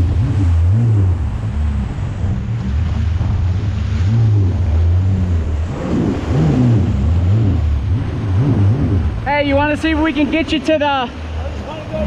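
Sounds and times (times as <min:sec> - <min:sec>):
rushing water: 0:00.0 - 0:12.0
watercraft engine running: 0:00.0 - 0:12.0.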